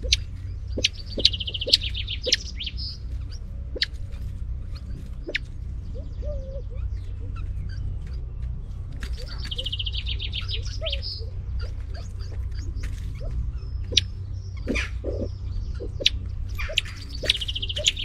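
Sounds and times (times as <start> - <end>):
chicks peeping: 0.0 - 18.0
fast bird trill: 0.0 - 18.0
steady low rumble: 0.0 - 18.0.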